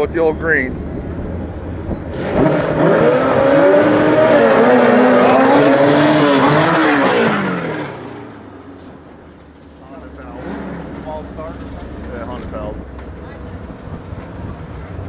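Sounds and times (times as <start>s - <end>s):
lawn mower engines revving: 0.0s - 15.0s.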